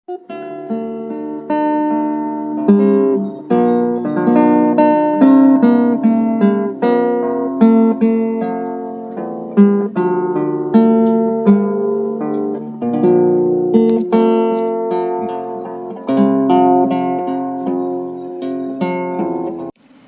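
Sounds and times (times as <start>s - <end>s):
acoustic guitar tune: 0.1s - 20.0s.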